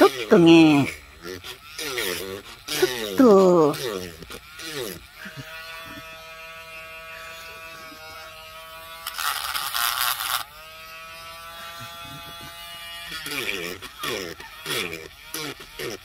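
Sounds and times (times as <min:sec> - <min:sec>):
drill bit grinding resin: 0:00.0 - 0:16.0
electric nail drill whining: 0:00.0 - 0:16.0.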